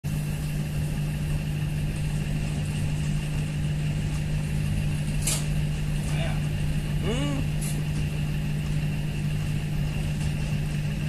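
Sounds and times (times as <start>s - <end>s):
train engine humming: 0.1s - 11.0s.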